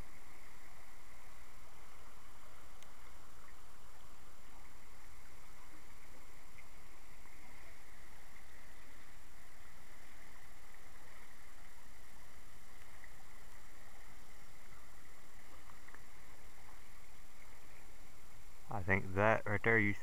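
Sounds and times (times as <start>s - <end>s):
creek water babbling over gravel: 0.0s - 20.0s.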